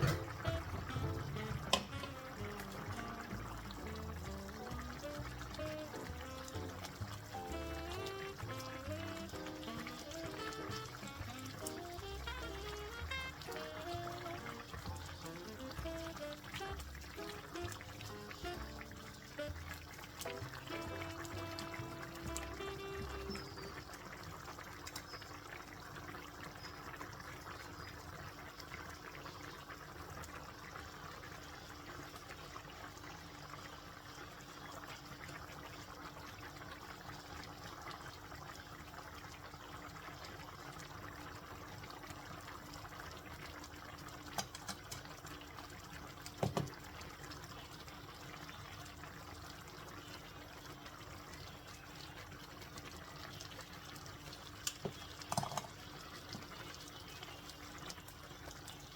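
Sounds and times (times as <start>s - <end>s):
water running or bubbling: 0.0s - 58.9s.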